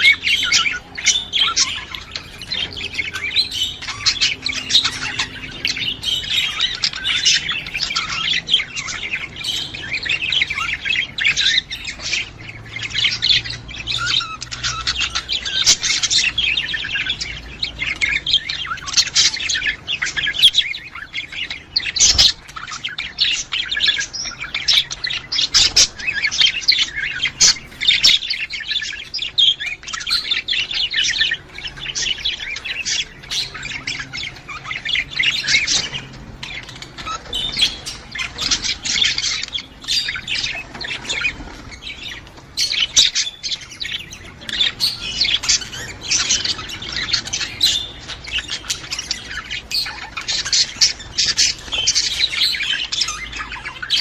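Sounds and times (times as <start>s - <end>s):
budgerigars chattering and warbling: 0.0s - 54.0s.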